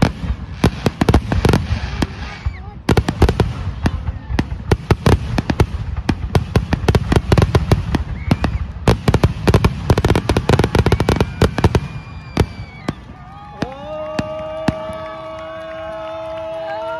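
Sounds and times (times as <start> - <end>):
fireworks bangs and crackles: 0.0 - 16.9.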